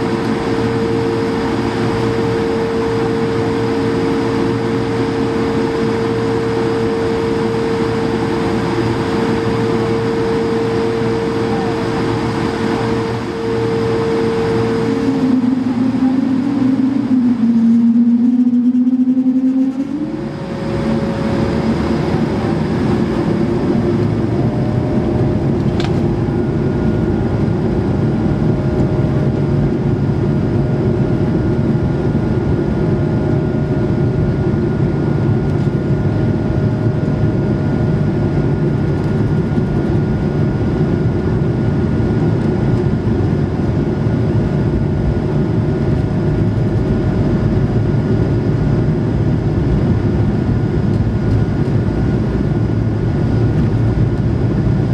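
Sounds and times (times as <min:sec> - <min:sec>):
jet engine rush and whine: 0:00.0 - 0:54.9.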